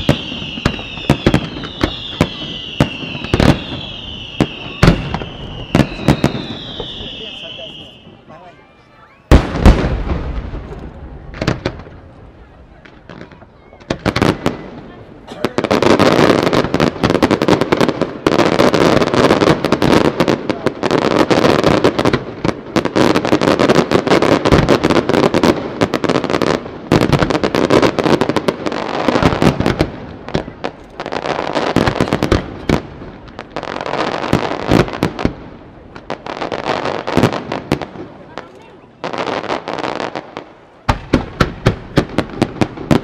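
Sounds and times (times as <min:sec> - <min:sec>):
fireworks bursting and crackling: 0:00.0 - 0:43.0.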